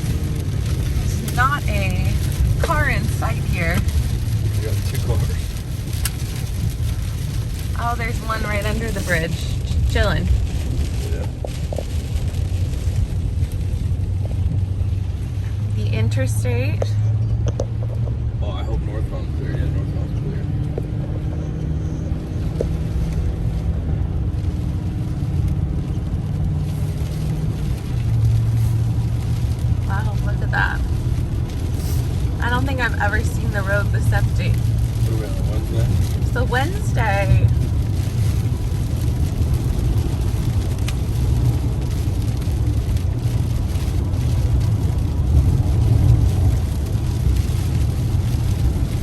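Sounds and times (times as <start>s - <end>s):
road noise: 0.0s - 49.0s
truck engine rumble: 0.0s - 49.0s.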